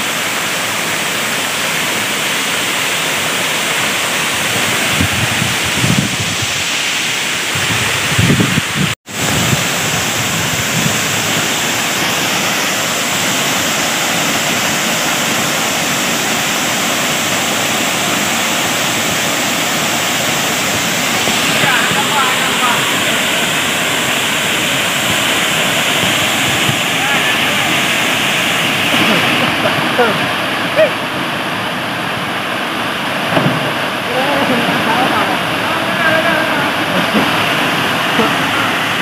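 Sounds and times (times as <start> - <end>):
waterfall crashing into pool: 0.0 - 39.0.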